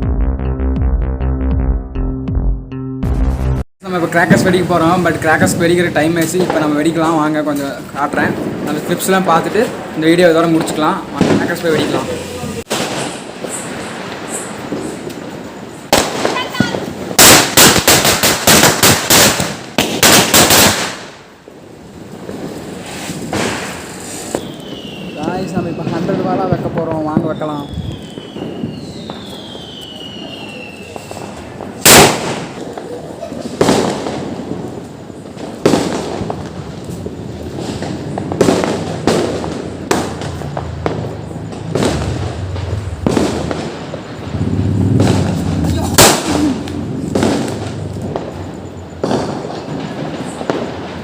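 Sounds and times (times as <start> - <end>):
firecrackers banging: 3.8 - 51.0.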